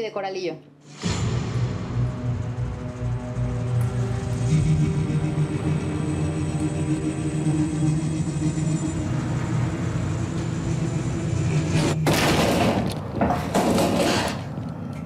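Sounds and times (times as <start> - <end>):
steady low drone: 0.8 - 13.2.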